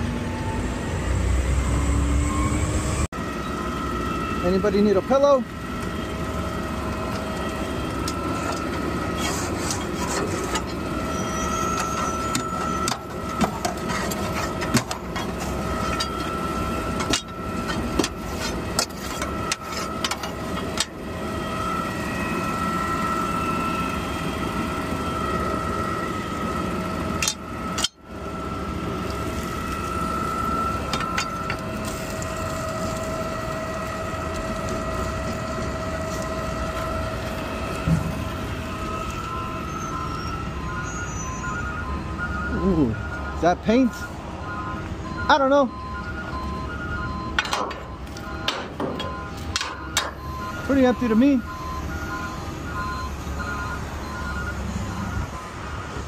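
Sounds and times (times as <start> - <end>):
garbage truck engine whining: 0.0 - 56.0.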